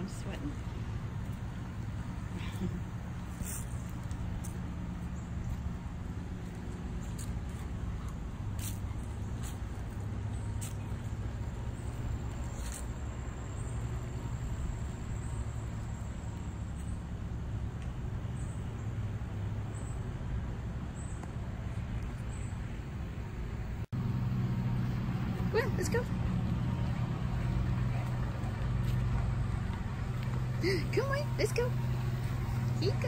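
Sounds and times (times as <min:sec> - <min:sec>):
distant earth-moving machinery drone: 0:00.0 - 0:33.0.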